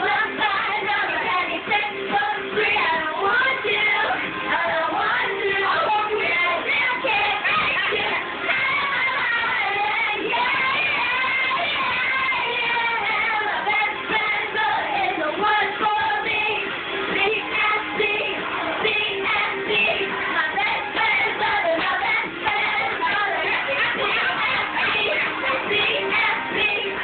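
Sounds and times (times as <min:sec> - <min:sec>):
girls singing along: 0:00.0 - 0:27.0
pop song with female vocals: 0:00.0 - 0:27.0.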